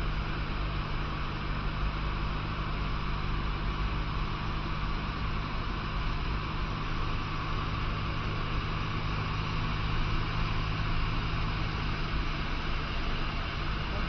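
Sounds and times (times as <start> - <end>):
small plane engine droning: 0.0 - 14.0.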